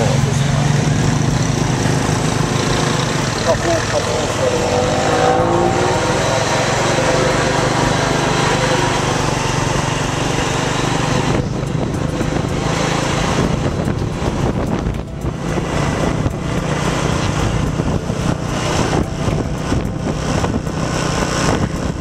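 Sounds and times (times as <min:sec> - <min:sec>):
motor scooter engine: 0:00.0 - 0:22.0
wind on microphone: 0:00.7 - 0:22.0.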